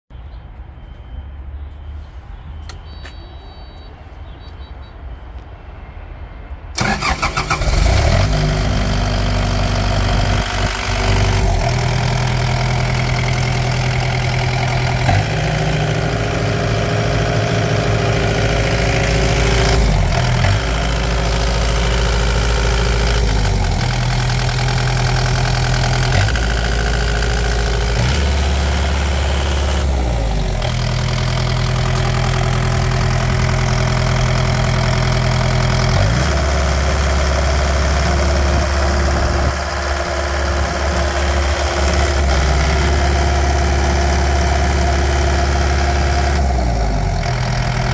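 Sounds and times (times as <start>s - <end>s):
diesel engine cranking and running: 6.8s - 47.9s.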